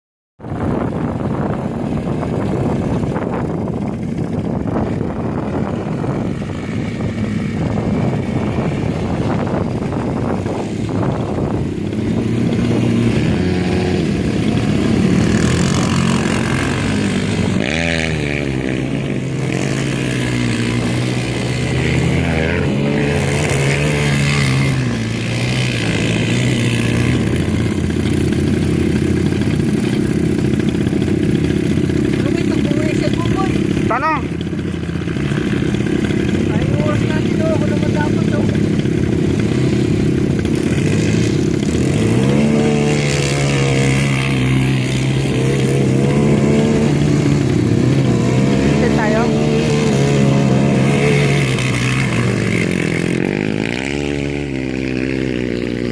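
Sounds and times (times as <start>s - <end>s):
atv engine revving: 0.4s - 55.9s.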